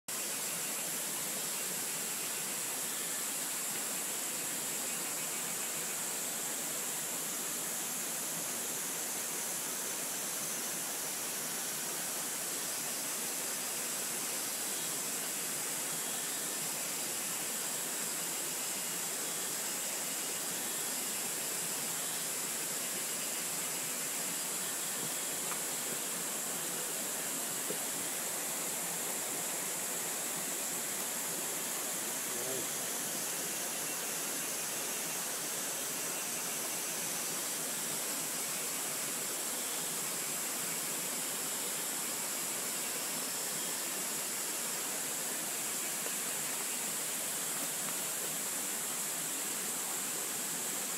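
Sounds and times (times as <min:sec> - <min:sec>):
hissing outdoor ambience: 0:00.0 - 0:50.9.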